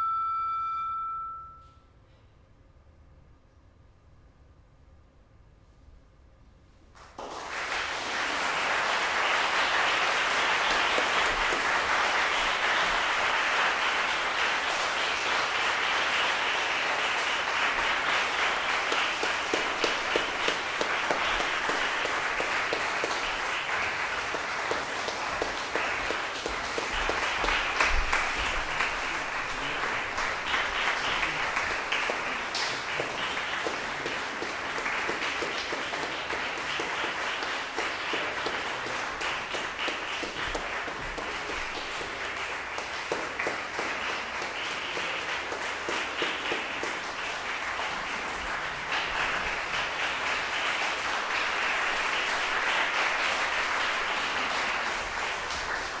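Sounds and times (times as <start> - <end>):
audience applauding: 7.0 - 56.0.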